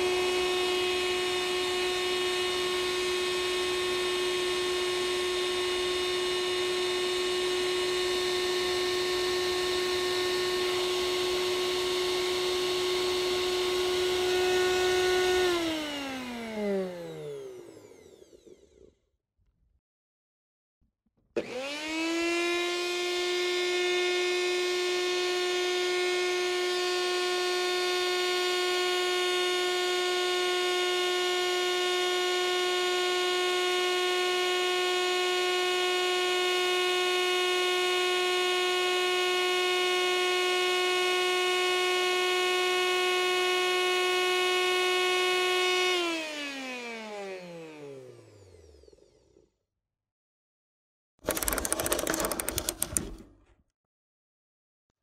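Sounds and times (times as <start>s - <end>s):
appliance motor whine: 0.0s - 19.0s, 21.4s - 49.5s.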